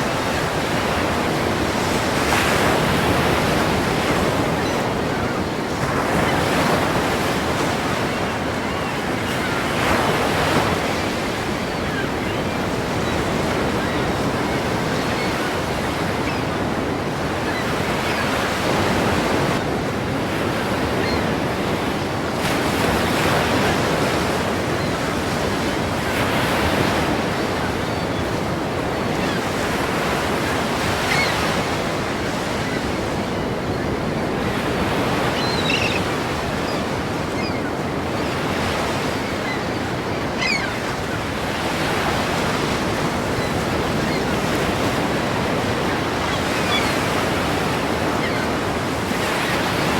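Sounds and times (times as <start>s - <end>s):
ocean waves crashing: 0.0s - 49.9s.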